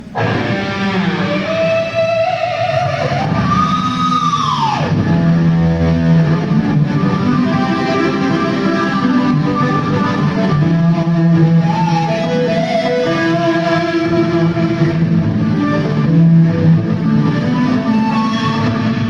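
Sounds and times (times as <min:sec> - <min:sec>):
electric guitar through amplifier: 0:00.0 - 0:19.0.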